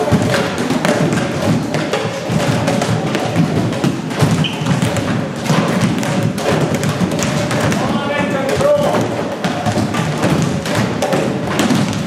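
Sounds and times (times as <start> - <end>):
hurleys clattering on balls and floor: 0.0 - 12.0.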